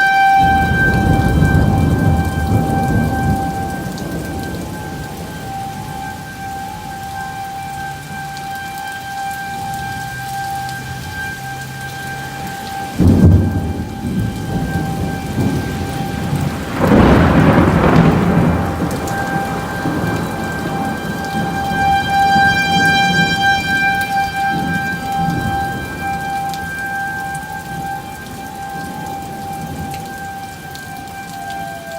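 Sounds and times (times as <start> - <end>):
heavy rain: 0.0 - 31.9
tornado warning siren: 0.0 - 31.9
thunderclaps rumbling: 0.4 - 8.6, 9.6 - 31.9.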